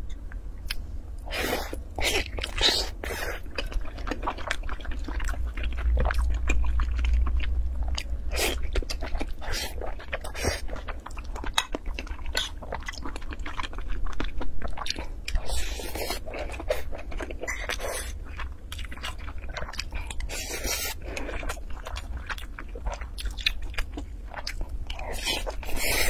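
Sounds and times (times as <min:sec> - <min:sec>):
steady low hum: 0:00.0 - 0:26.0
close chewing with wet smacking: 0:02.2 - 0:26.0.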